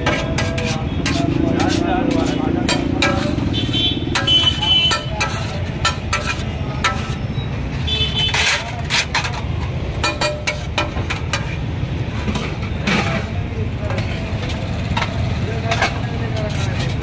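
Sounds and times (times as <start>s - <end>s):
metal spatula scraping iron griddle: 0.0s - 13.4s, 14.0s - 17.0s.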